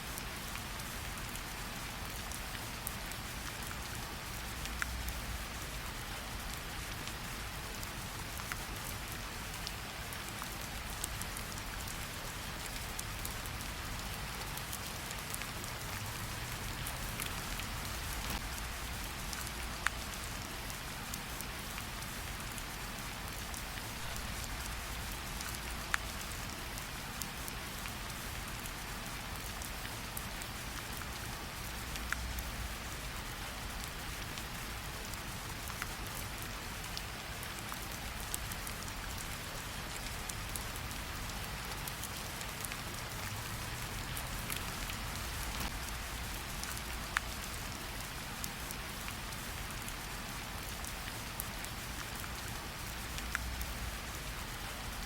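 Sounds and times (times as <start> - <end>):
rain pattering on leaves: 0.0 - 55.0.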